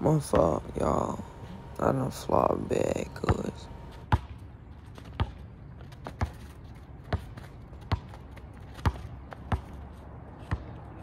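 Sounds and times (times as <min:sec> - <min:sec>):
basketball bouncing on pavement: 0:00.1 - 0:01.2, 0:02.8 - 0:11.0.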